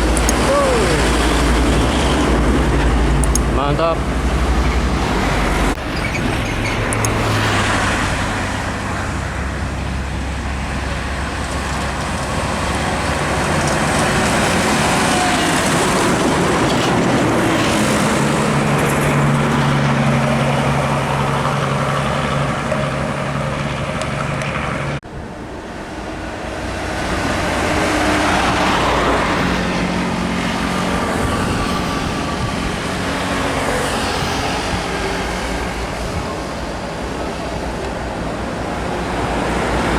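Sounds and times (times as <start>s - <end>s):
heavy trucks passing: 0.0s - 39.9s
low engine drone: 0.0s - 39.9s.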